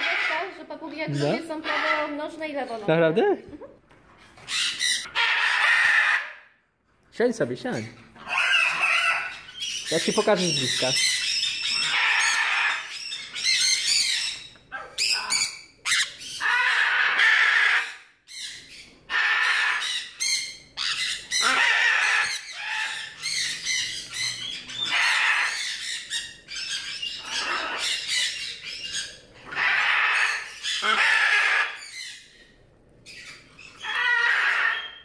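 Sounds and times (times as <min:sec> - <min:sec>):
parrots squawking: 0:00.0 - 0:03.1, 0:04.1 - 0:06.6, 0:07.7 - 0:35.0.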